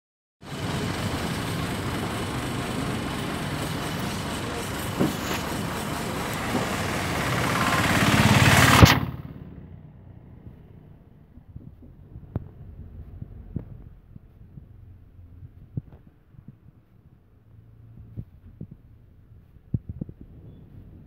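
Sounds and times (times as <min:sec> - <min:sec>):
bus engine and road noise: 0:00.4 - 0:21.0.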